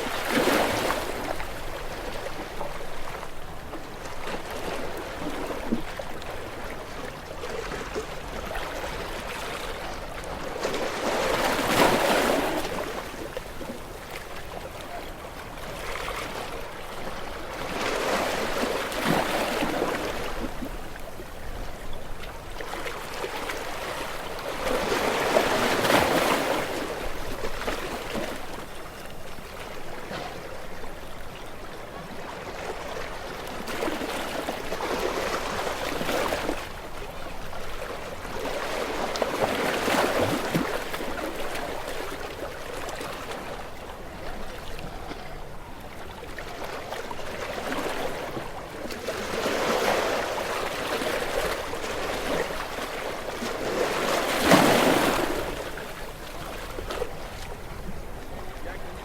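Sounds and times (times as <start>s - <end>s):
gentle waves washing on shore: 0.0s - 59.0s.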